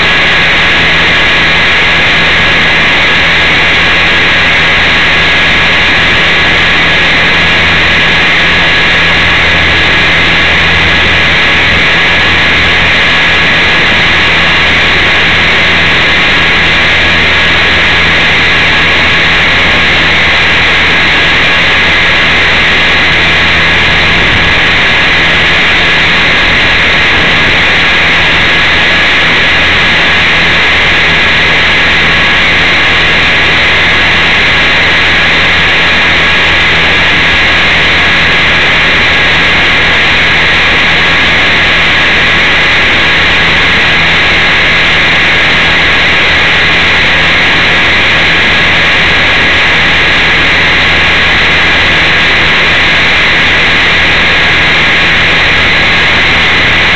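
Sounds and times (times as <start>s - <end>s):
model helicopter rotor drone: 0.0s - 56.9s.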